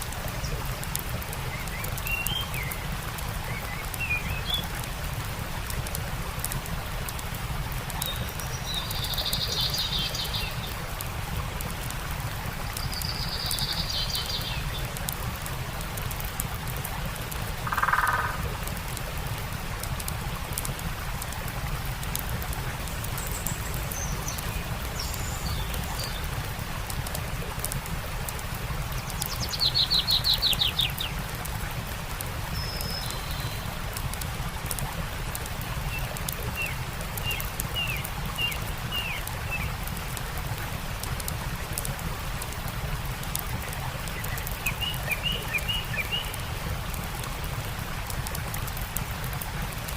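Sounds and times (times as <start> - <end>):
songbirds chirping: 0.0 - 19.5, 22.2 - 33.8, 35.5 - 39.8, 42.7 - 47.6
campfire crackling: 0.0 - 49.9
stream running: 0.0 - 49.9.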